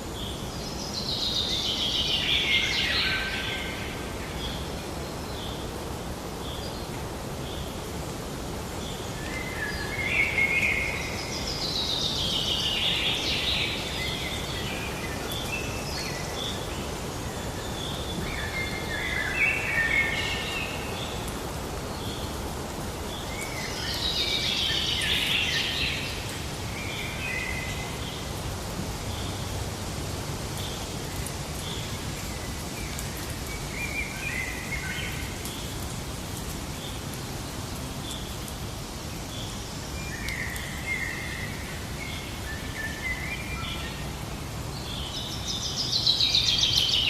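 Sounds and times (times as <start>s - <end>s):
steady background hiss: 0.0s - 47.0s
songbirds singing: 8.7s - 36.1s, 36.7s - 47.0s.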